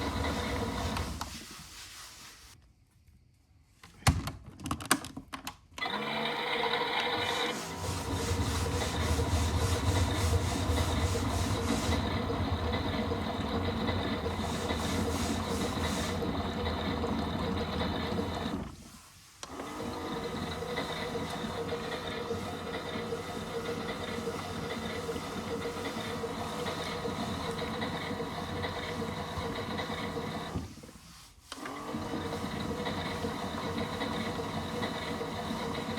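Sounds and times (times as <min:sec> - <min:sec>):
washing machine humming and whirring: 0:00.0 - 0:02.6, 0:05.8 - 0:35.9.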